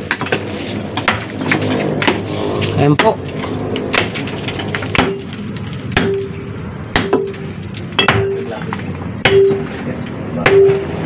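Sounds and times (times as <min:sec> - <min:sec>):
sledgehammer striking concrete: 0:00.0 - 0:03.2, 0:03.9 - 0:09.8, 0:10.4 - 0:11.0.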